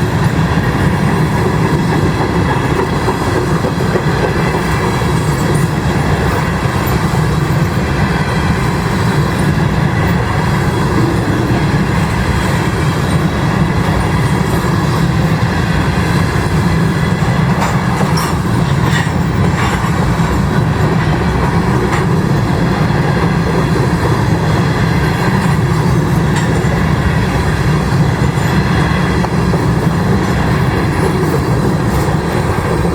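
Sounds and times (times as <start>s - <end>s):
clickety-clack over rail joints: 0.0s - 32.9s
train wheels rumbling on rails: 0.0s - 32.9s.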